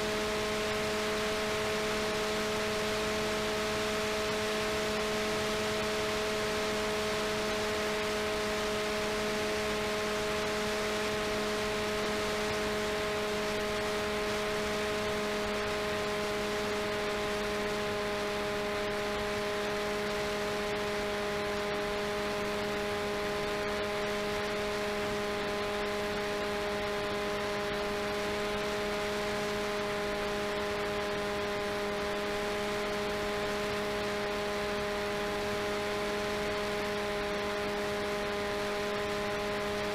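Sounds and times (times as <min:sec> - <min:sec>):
droning motor and propeller: 0:00.0 - 0:39.9.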